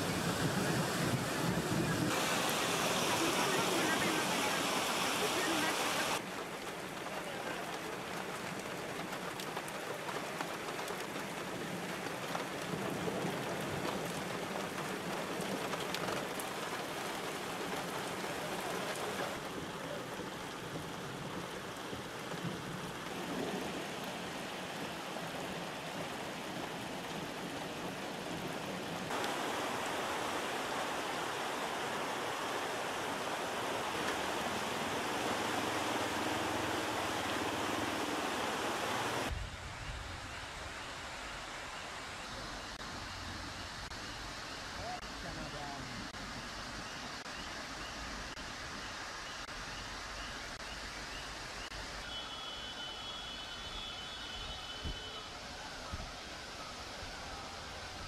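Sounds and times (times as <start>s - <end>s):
flood torrent rushing through brush: 0.0s - 58.0s
floodwater running through street: 0.0s - 58.0s
heavy rain: 0.0s - 58.0s.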